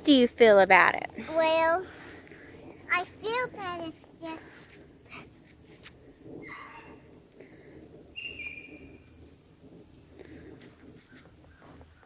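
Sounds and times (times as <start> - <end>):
crickets droning: 0.0 - 12.0
quiet outdoor background noise: 0.0 - 12.0.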